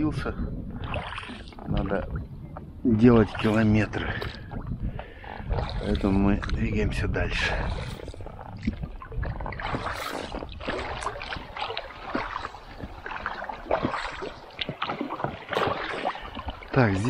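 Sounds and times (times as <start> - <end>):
paddle splashing in water: 0.7 - 2.2, 2.9 - 17.0.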